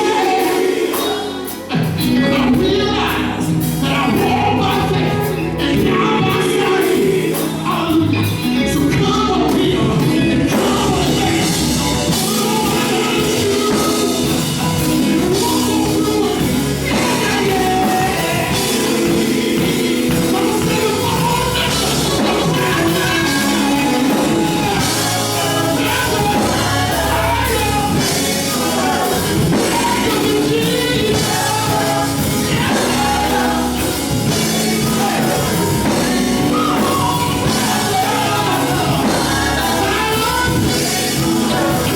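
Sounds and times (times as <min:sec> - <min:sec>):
rock band music with singing: 0:00.0 - 0:41.9.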